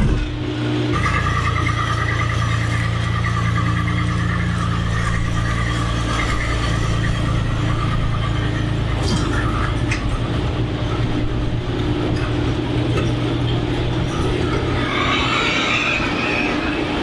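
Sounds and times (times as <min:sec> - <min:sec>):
vehicle driving drone: 0:00.0 - 0:17.0.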